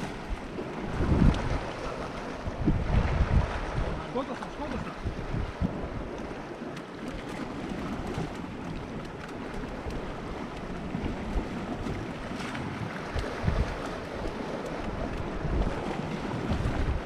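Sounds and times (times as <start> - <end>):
waves against rocks: 0.0 - 17.0
wind buffeting microphone: 0.0 - 17.0.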